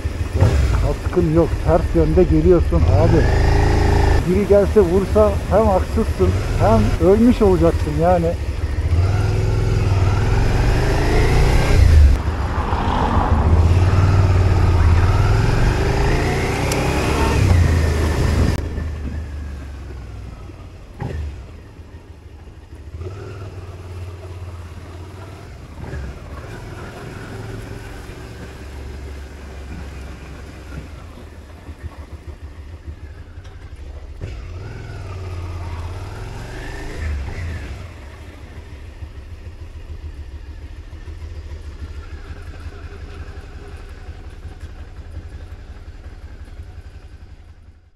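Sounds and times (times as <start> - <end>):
motorcycle engine accelerating: 0.0 - 20.1, 22.8 - 47.9.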